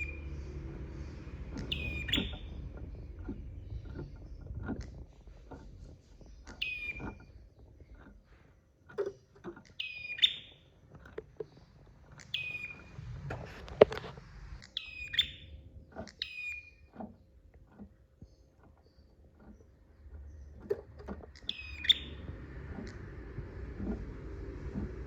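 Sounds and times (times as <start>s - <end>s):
bird chirping: 0.0s - 8.4s, 9.6s - 13.6s, 14.6s - 25.0s
knocks and clicks: 0.0s - 25.0s.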